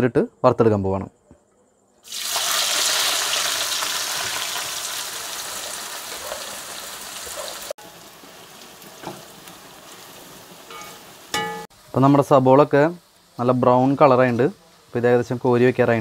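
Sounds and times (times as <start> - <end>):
onions sizzling in oil: 2.0 - 16.0.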